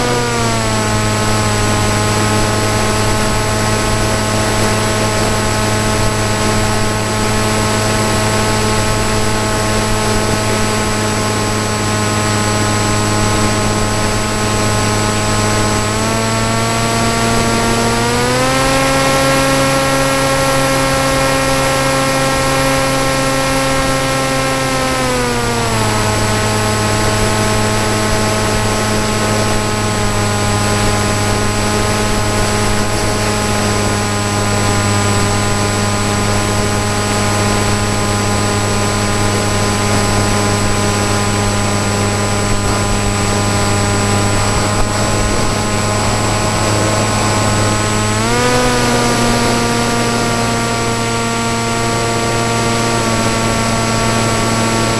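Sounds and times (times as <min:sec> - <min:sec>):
model plane motor and propeller: 0:00.0 - 0:54.9.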